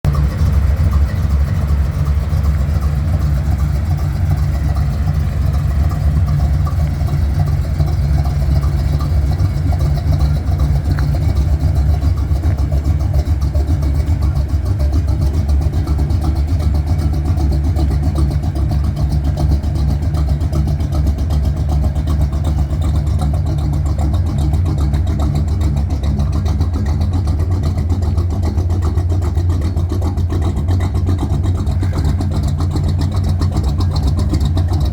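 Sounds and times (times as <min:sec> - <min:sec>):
pickup engine rumbling: 0:00.0 - 0:34.9.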